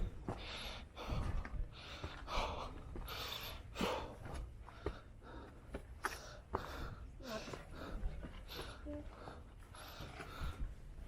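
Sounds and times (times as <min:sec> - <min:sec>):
heavy hard breathing: 0:00.0 - 0:11.0.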